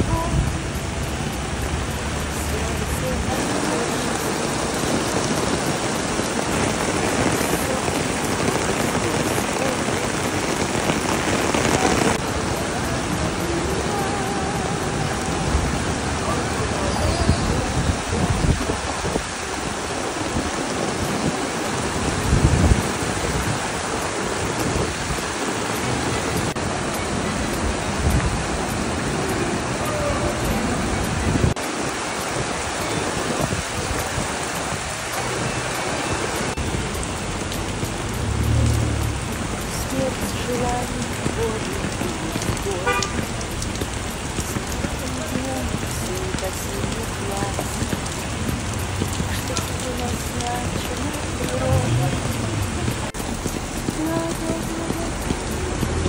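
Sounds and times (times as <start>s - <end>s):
heavy rain on a flooded street: 0.0s - 56.0s.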